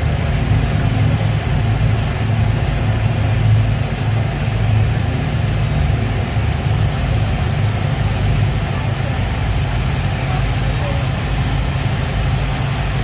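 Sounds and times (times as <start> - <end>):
speedboat engines droning: 0.0 - 13.0.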